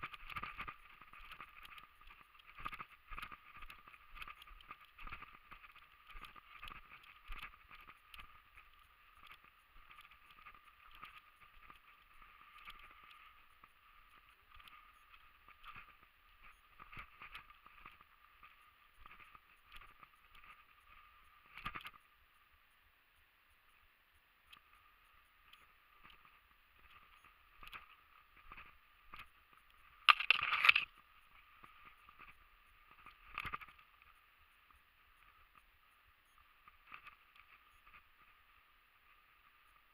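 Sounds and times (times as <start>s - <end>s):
small clicks and snaps: 0.0s - 22.1s, 24.4s - 39.9s.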